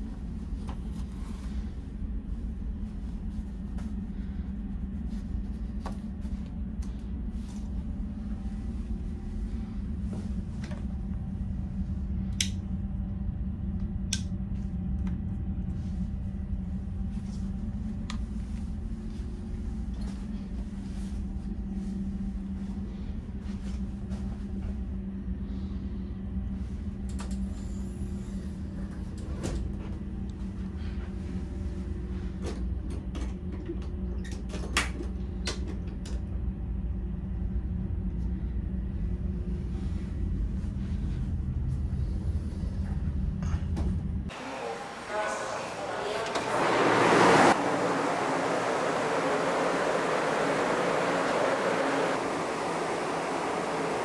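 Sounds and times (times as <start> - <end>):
low machinery hum: 0.0 - 54.0.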